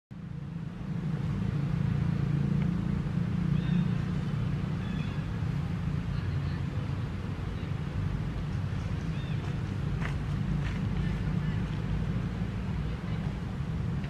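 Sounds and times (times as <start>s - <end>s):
distant vehicle engine rumble: 0.1s - 14.0s.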